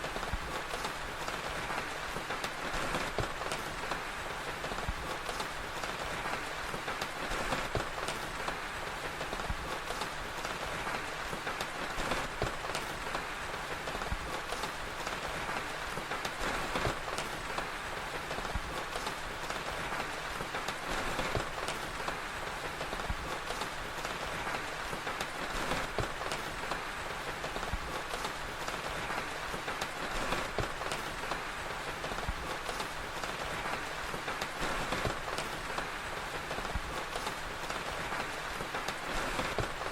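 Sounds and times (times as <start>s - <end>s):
fire crackling and popping: 0.0s - 39.9s
steady rainfall: 0.0s - 39.9s.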